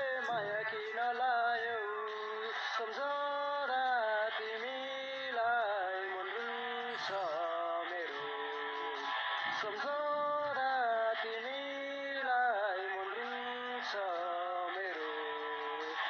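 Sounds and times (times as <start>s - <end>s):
person singing slow melody: 0.0s - 16.0s.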